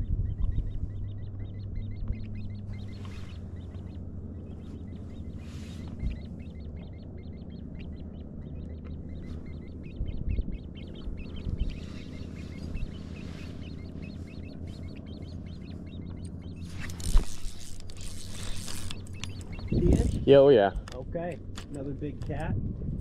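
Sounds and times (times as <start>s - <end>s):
birds chirping: 0.0s - 22.6s
steady low hum: 0.0s - 23.0s.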